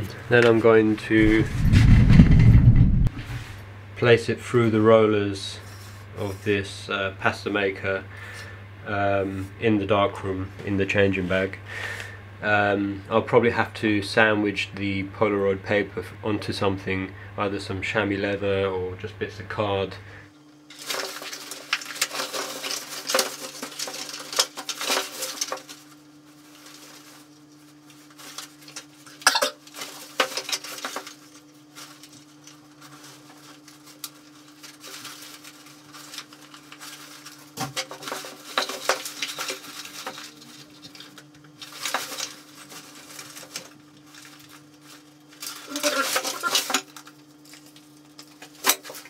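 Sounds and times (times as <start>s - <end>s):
low electrical hum: 0.0s - 49.0s.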